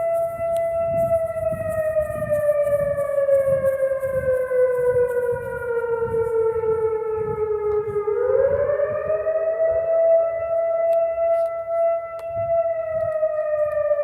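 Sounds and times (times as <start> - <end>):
outdoor warning siren: 0.0 - 14.0.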